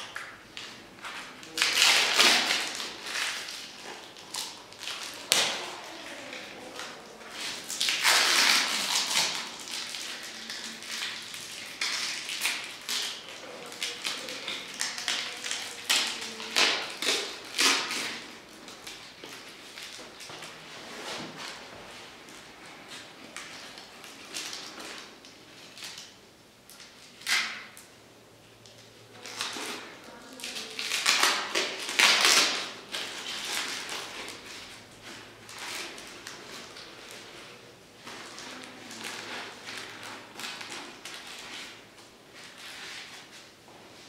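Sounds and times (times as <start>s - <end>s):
plastic film crinkling: 0.6s - 21.7s, 29.1s - 43.6s.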